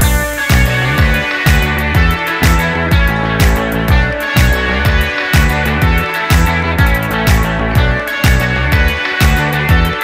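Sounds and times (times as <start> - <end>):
kick drum beat: 0.0 - 10.0.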